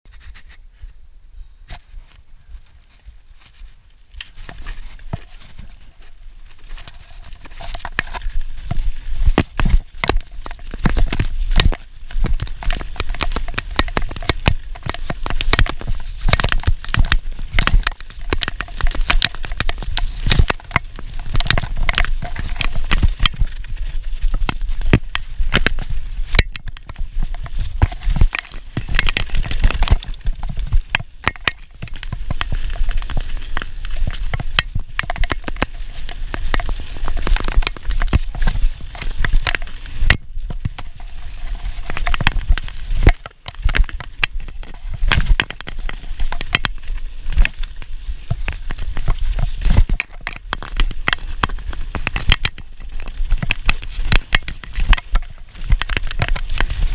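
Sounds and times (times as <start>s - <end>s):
bike knocking and rattling: 1.7s - 56.9s
bike tyres rumbling over ground: 2.0s - 56.9s.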